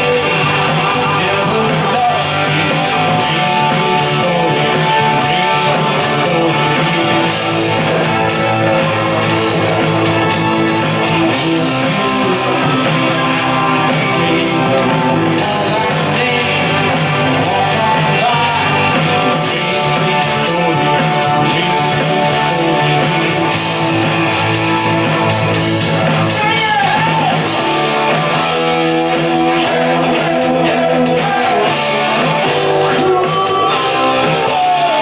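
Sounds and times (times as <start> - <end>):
electric guitar strumming: 0.0 - 35.0
live rock band playing: 0.0 - 35.0.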